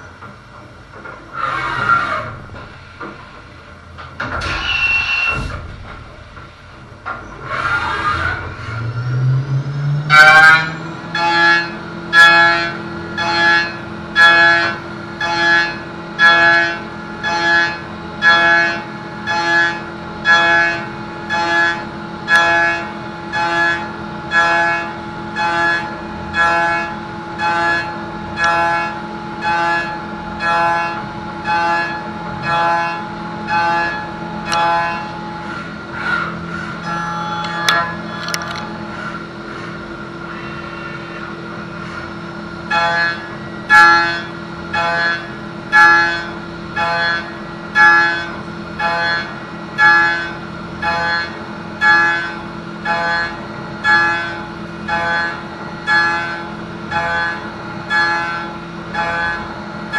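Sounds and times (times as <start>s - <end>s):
machine hum: 0.0s - 59.9s
spindle whine: 0.0s - 59.9s
end mill cutting metal: 1.0s - 59.9s.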